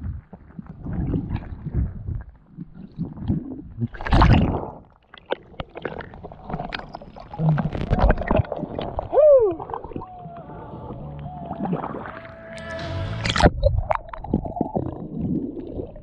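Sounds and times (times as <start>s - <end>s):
water gurgling and bubbling: 0.0s - 12.5s, 13.2s - 16.0s.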